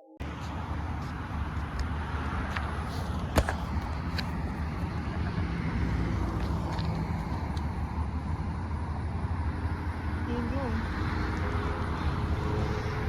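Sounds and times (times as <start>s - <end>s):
steady low rumble: 0.2s - 13.0s.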